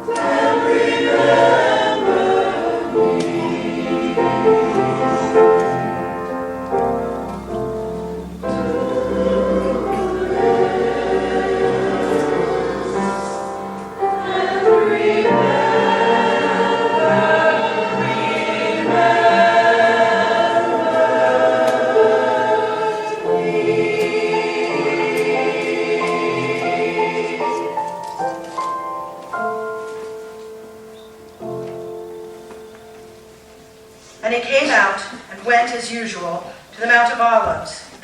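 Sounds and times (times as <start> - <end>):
choir singing with accompaniment: 0.0 - 34.3.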